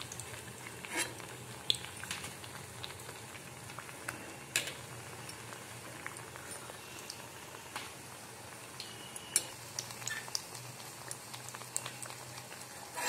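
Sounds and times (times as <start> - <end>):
oil bubbling and sizzling: 0.0 - 13.0.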